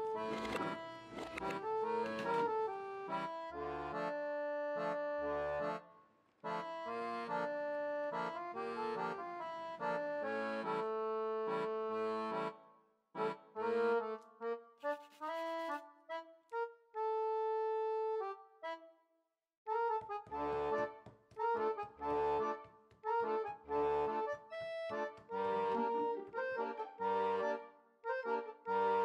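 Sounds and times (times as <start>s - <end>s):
accordion melody: 0.0s - 19.1s, 19.7s - 29.0s.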